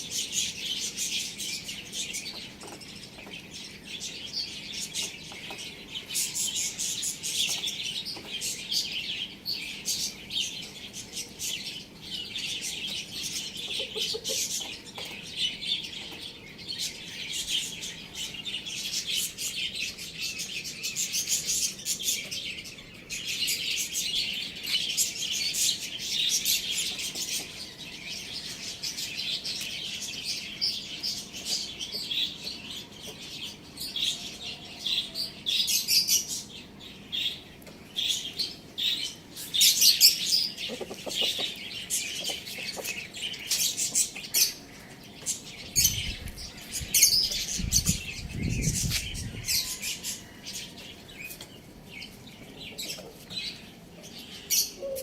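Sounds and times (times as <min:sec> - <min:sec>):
cage birds chirping: 0:00.0 - 0:55.0.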